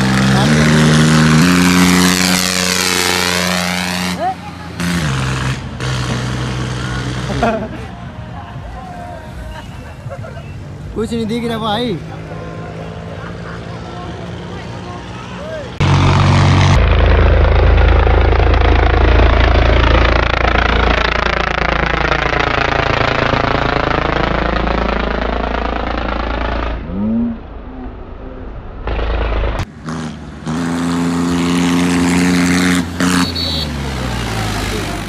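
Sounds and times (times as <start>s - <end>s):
tractor diesel engine passing by: 0.0s - 35.0s.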